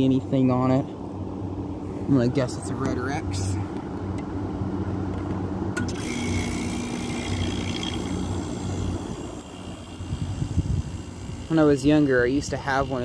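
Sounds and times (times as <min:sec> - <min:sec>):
window air conditioner running: 0:00.0 - 0:13.0.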